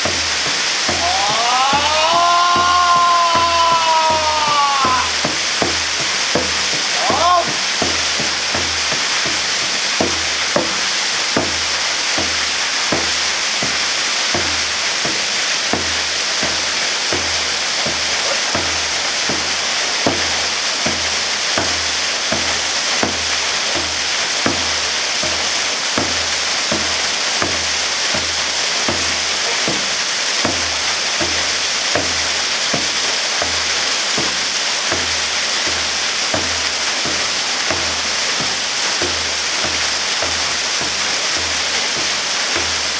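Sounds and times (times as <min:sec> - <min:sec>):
water splashes and thuds: 0:00.0 - 0:42.9
waterfall rushing: 0:00.0 - 0:42.9.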